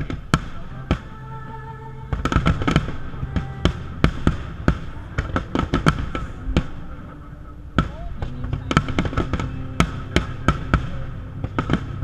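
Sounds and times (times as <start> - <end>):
fireworks bangs and crackles: 0.0 - 1.5, 2.1 - 12.0.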